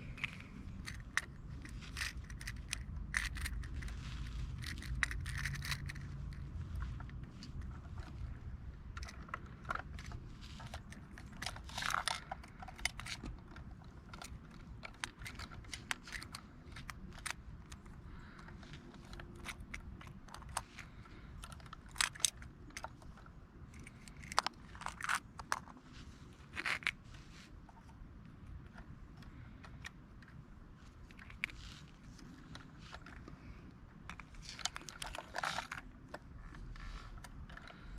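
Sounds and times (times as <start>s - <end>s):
toy trucks clattering: 0.0s - 27.0s, 28.7s - 37.9s
low background rumble: 0.0s - 37.9s
toy handling clicks and taps: 0.0s - 37.9s.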